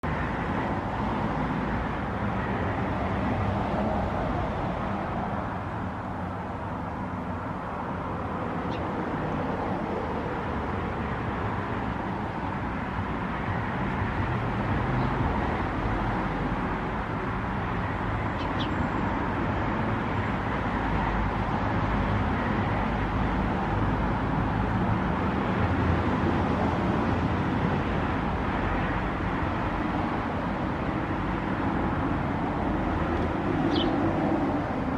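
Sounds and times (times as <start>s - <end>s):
distant road traffic: 0.0s - 34.9s.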